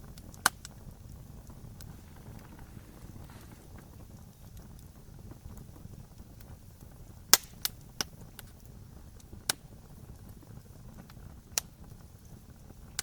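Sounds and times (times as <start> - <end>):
campfire crackling and popping: 0.0 - 13.0
low rumble of fire: 0.0 - 13.0.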